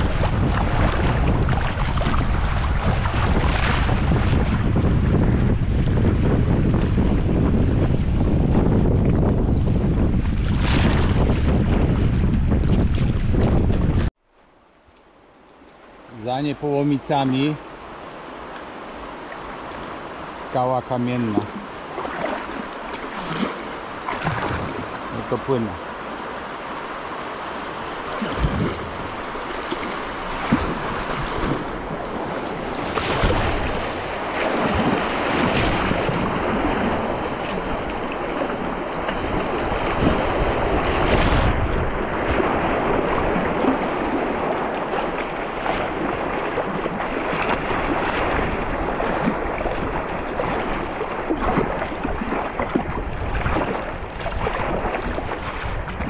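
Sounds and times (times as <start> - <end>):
wind noise on microphone: 0.0 - 14.2, 16.2 - 56.0
water splashing around kayak: 0.0 - 56.0.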